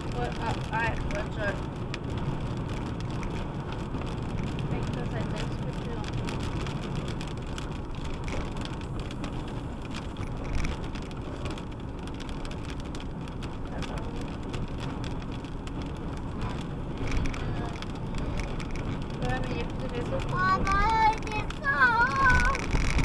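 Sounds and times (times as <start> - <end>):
car interior road rumble: 0.0 - 23.0
raindrops ticking on windshield: 0.0 - 23.0.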